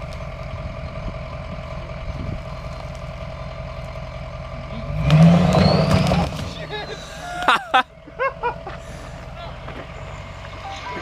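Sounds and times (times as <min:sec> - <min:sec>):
truck engine idling and revving: 0:00.0 - 0:11.0.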